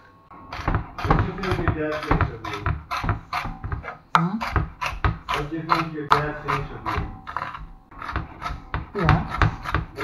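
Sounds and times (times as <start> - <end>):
knife chopping on wooden board: 0.5 - 10.0.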